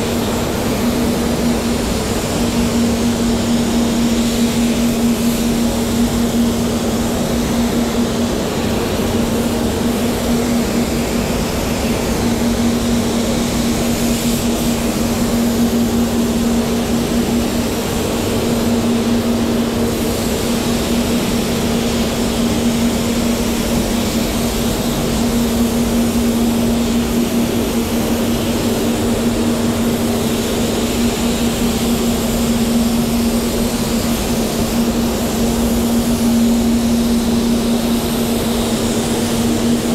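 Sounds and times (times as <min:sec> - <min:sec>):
machine hum: 0:00.0 - 0:39.9
spray gun hissing: 0:00.0 - 0:39.9.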